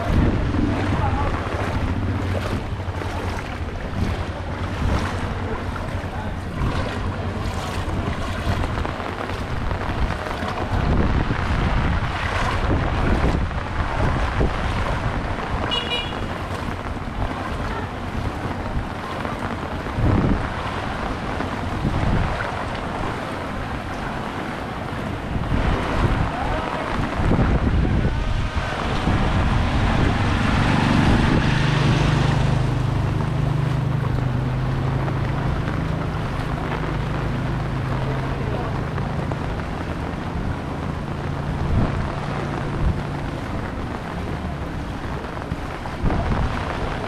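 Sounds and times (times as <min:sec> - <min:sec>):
footsteps sloshing through water: 0:00.0 - 0:47.0
rain on water: 0:00.0 - 0:47.0
wind buffeting microphone: 0:00.0 - 0:47.0.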